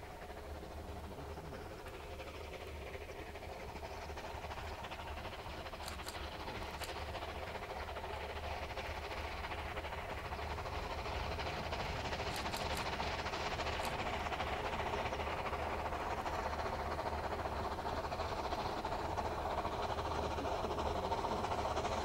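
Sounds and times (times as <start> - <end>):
distant steam locomotive running: 0.0 - 22.0.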